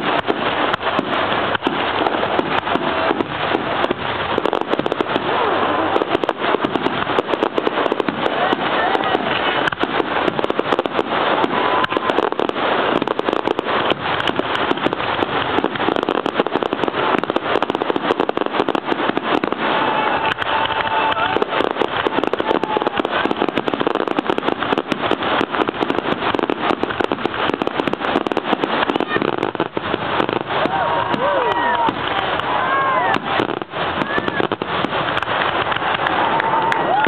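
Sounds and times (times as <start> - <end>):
fireworks crackling: 0.0 - 37.0
fireworks shells bursting: 0.0 - 37.0.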